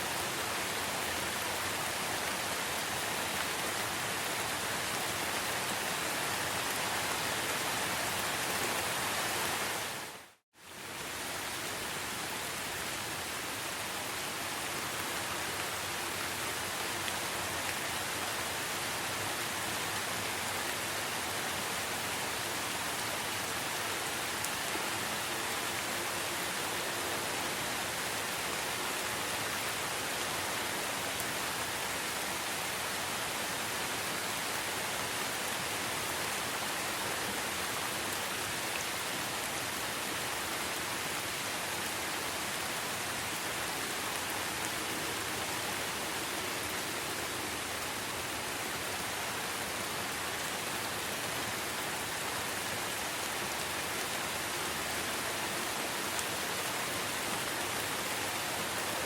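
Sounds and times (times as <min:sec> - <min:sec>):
rain falling in forest: 0:00.0 - 0:59.0.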